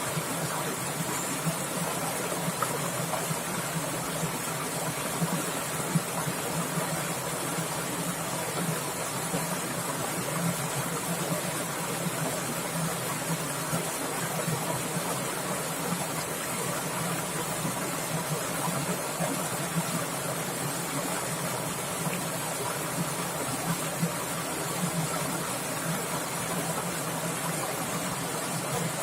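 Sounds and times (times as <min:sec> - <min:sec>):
stream water babbling: 0:00.0 - 0:29.0.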